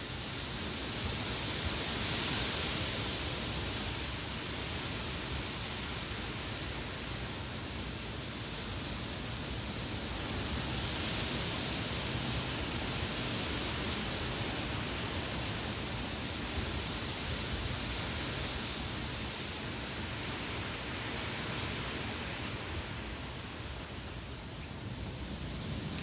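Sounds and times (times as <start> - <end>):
wind rustling foliage: 0.0 - 26.0.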